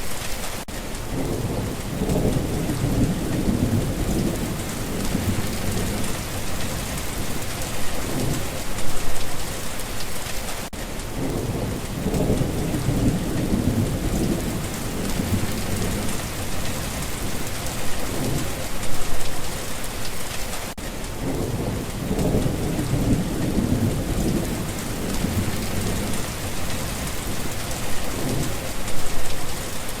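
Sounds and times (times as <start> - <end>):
heavy rain hissing: 0.0 - 30.0
thunder rumbling: 1.0 - 9.5, 11.1 - 19.5, 21.0 - 30.0.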